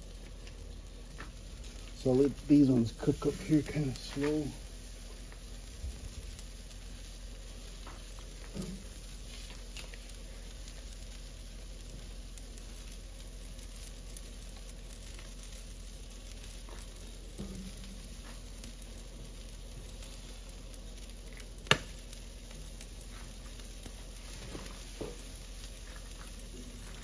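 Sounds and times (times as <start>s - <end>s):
meat sizzling on grill: 0.0s - 27.0s.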